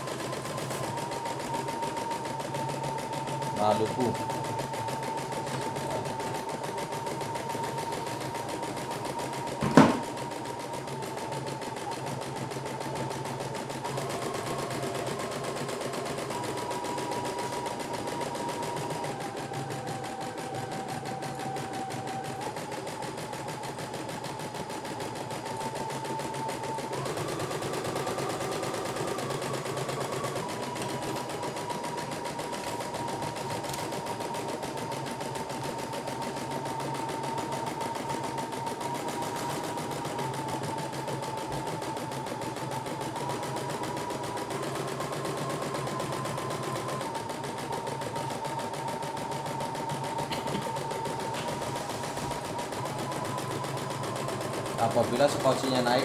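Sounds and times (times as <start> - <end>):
embroidery machine clattering: 0.0 - 56.0.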